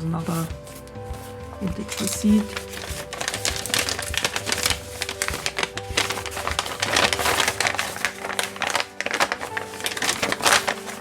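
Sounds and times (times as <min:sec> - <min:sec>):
paper crinkling and rustling: 0:00.0 - 0:11.0
soft background music: 0:00.0 - 0:11.0.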